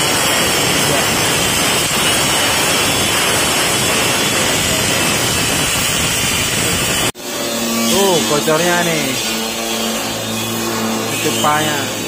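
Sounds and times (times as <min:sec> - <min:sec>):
angle grinder cutting metal pipe: 0:00.0 - 0:12.0.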